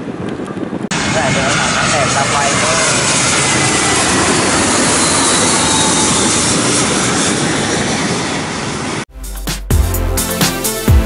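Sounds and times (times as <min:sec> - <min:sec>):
jet airliner engines rushing: 0:00.1 - 0:09.1.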